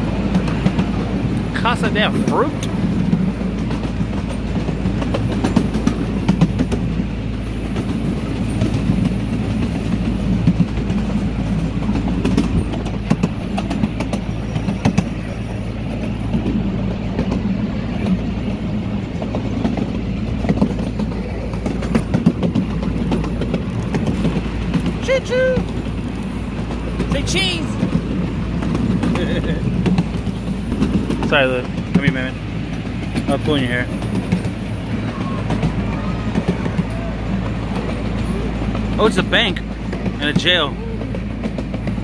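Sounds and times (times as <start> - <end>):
park train rumbling on track: 0.0 - 42.0.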